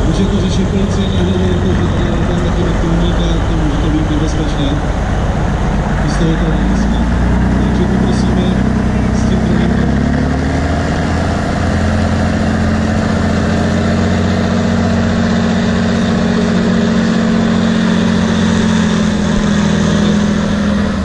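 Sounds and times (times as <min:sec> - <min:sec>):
diesel truck engine working hard: 0:00.0 - 0:21.0.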